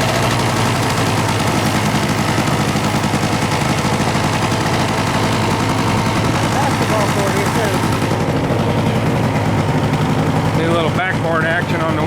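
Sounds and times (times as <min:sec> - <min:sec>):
small engine putter: 0:00.0 - 0:12.0.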